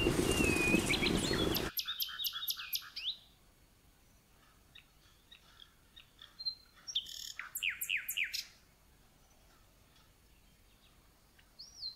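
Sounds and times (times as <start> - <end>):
small bird singing: 0.0 - 3.4, 4.1 - 8.6, 9.2 - 11.9.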